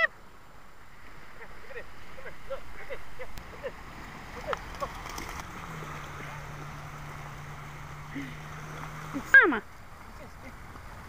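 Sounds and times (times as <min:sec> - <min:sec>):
small waves washing on shore: 0:00.0 - 0:11.0
steady low hum: 0:00.0 - 0:11.0.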